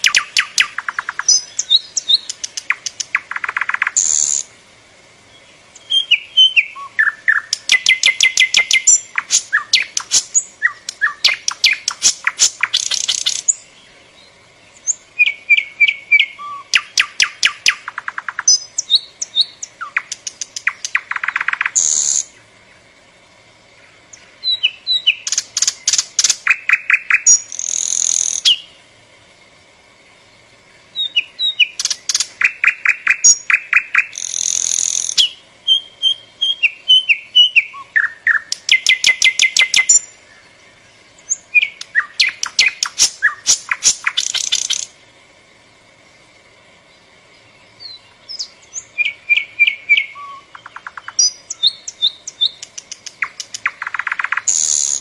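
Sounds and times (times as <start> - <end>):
nightingale singing: 0.0 - 4.5, 5.2 - 22.9, 23.6 - 28.9, 30.1 - 45.0, 45.7 - 55.0.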